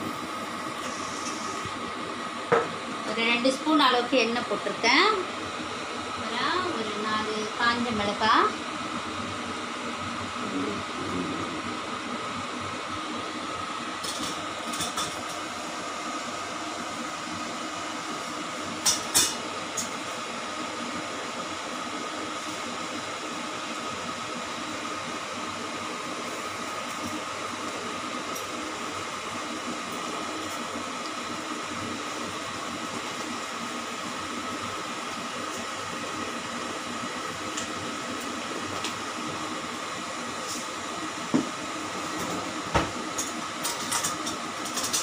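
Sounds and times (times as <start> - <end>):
gas burner hissing: 0.0 - 45.0.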